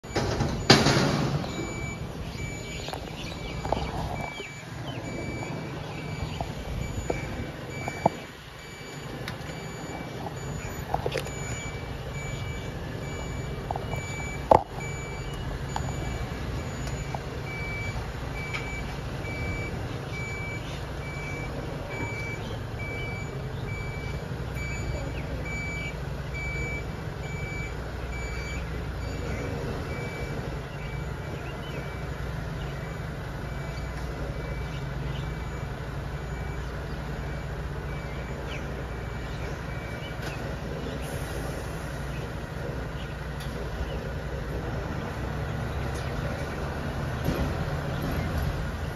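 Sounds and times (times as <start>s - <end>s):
reversing alarm beeping: 0.0s - 48.9s
truck engine low hum: 0.0s - 48.9s.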